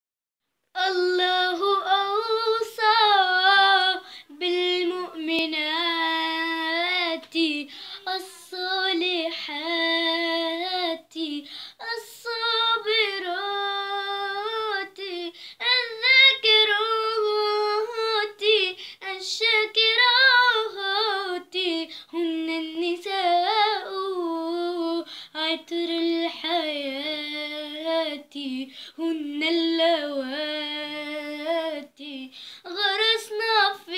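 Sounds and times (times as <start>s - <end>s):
girl singing unaccompanied: 0.7s - 33.9s.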